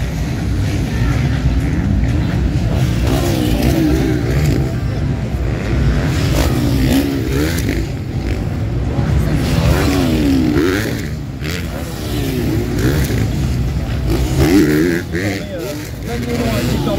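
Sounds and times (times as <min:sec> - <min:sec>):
motorcycle engines revving: 0:00.0 - 0:16.9.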